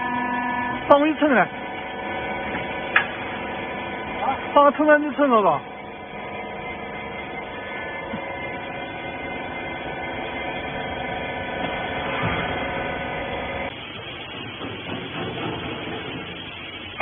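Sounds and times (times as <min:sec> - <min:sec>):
hydraulic power unit humming: 0:00.0 - 0:17.0.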